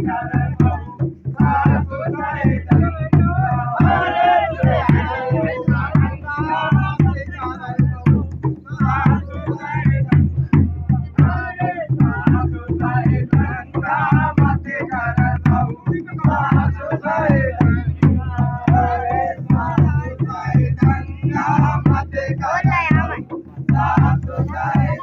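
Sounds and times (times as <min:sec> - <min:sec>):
men singing folk song: 0:00.0 - 0:25.0
hand drum beating: 0:00.3 - 0:09.2, 0:09.8 - 0:25.0.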